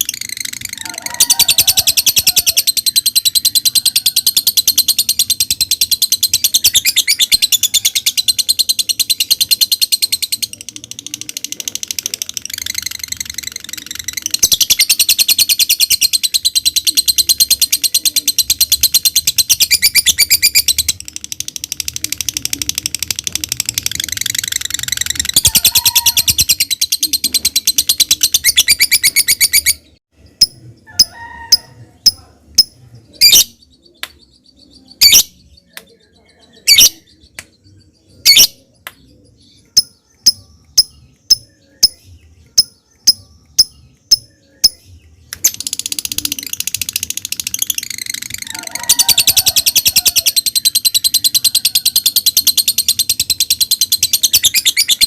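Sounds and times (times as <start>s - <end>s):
lovebird chattering trill: 0.0s - 37.3s, 38.2s - 38.7s, 45.4s - 55.0s.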